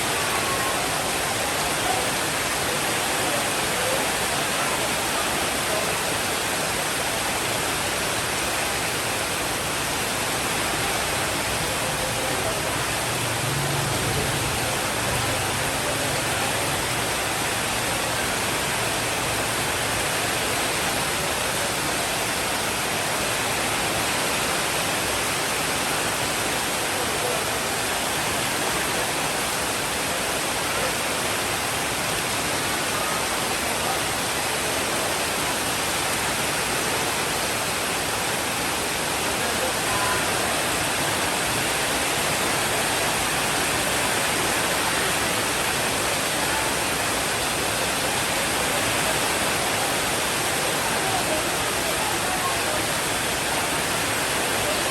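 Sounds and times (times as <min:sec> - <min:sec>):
heavy rainfall: 0:00.0 - 0:54.9.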